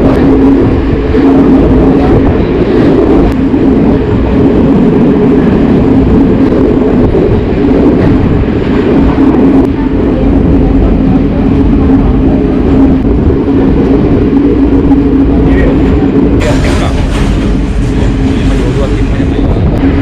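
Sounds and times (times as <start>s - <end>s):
rumbling road noise: 0.0s - 20.0s.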